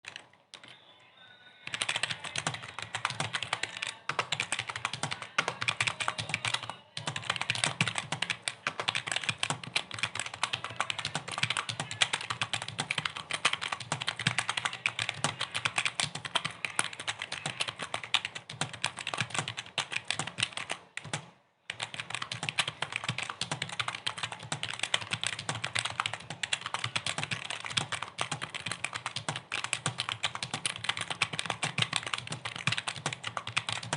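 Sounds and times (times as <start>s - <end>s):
rapid typing on computer keyboard: 0.0s - 0.8s, 1.6s - 33.9s.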